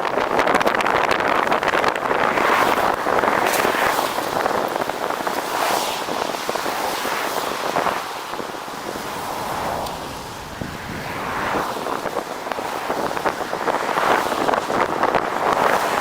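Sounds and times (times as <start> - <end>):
crackly road noise: 0.0 - 16.0
wind rushing over microphone: 0.0 - 16.0.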